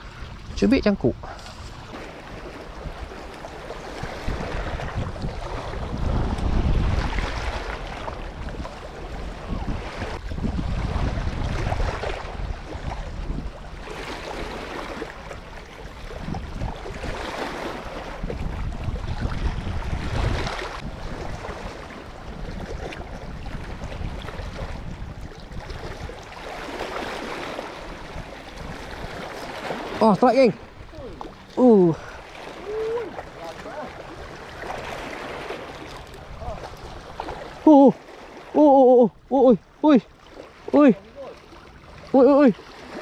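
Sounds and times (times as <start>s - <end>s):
wind buffeting microphone: 0.0s - 40.0s
waves lapping against rocks: 0.0s - 43.0s.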